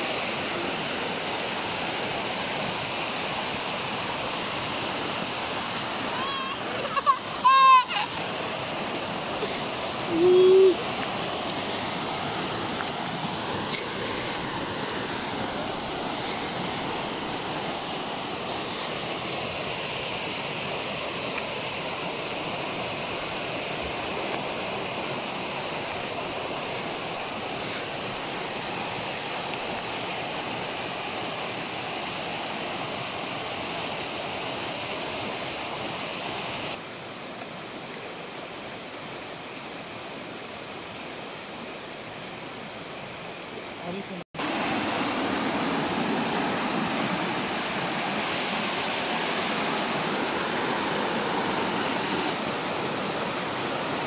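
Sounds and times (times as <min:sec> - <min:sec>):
water rushing from waterfall: 0:00.0 - 0:54.0.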